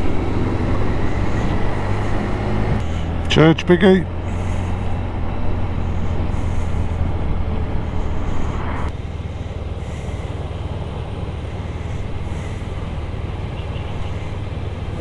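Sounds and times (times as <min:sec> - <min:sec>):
motorcycle engine: 0:00.0 - 0:15.0
road noise: 0:00.0 - 0:15.0.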